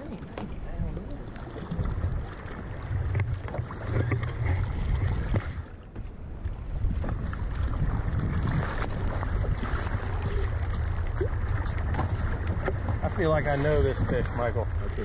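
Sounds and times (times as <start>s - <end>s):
water slapping against boat: 0.0s - 15.0s
wind rumbling on microphone: 0.0s - 15.0s.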